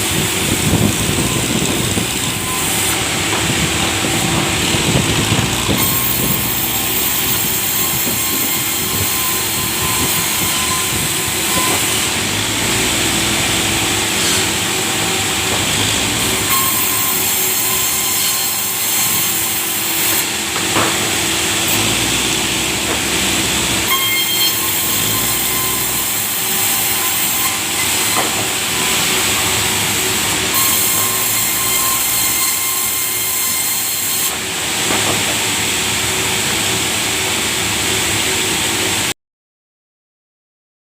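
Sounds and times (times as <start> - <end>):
saw cutting through log: 0.0 - 39.1.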